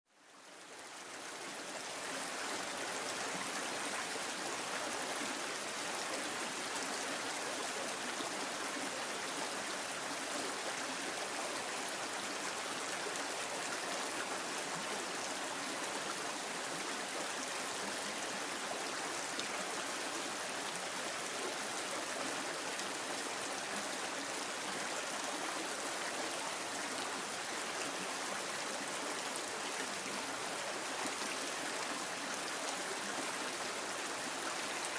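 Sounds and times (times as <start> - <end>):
stream of running water: 0.1 - 34.9.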